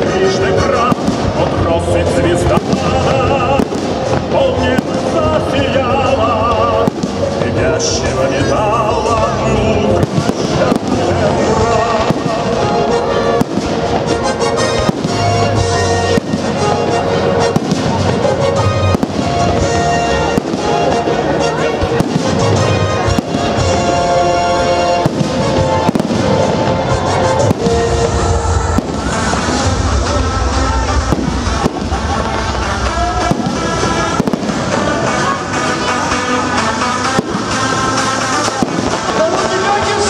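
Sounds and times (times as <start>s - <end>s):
fireworks bursting: 0.0s - 40.0s
music playing: 0.0s - 40.0s.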